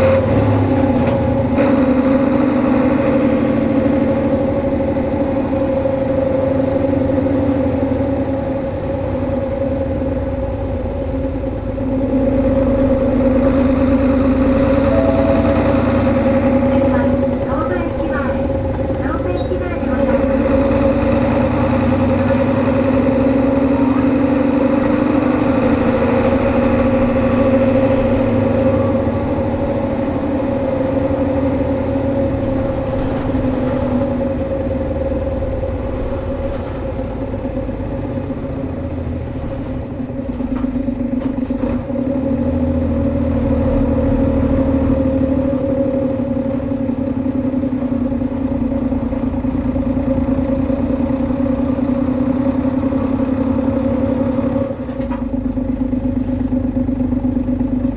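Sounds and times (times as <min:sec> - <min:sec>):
bus engine two-note drone: 0:00.0 - 0:57.9.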